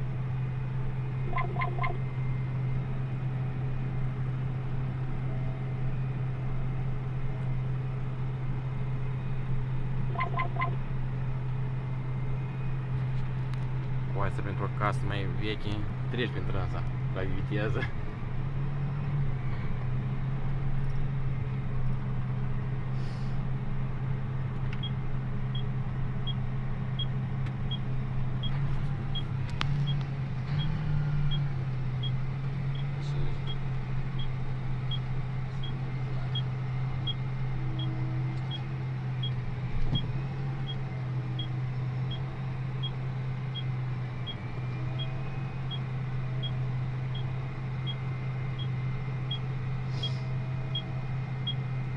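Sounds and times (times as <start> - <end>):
tractor diesel engine drone: 0.0 - 51.9.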